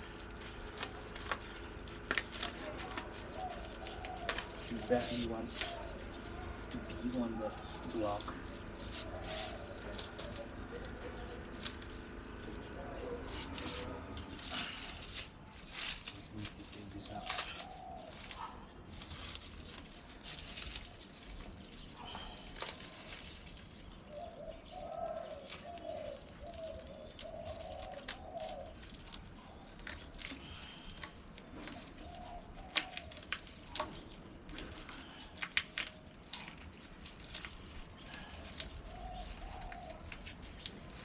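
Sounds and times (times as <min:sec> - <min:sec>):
bird cooing: 0:00.0 - 0:15.3, 0:16.2 - 0:19.4, 0:21.8 - 0:36.6, 0:37.2 - 0:41.0.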